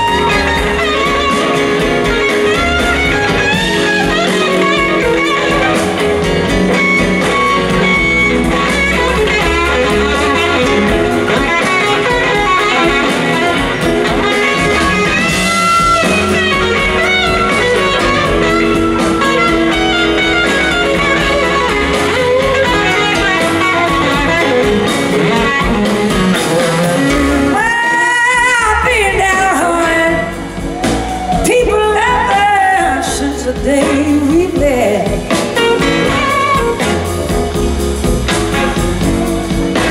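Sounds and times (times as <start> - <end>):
bass guitar: 0.0 - 39.9
drums: 0.0 - 39.9
electric guitar lead: 0.0 - 39.9.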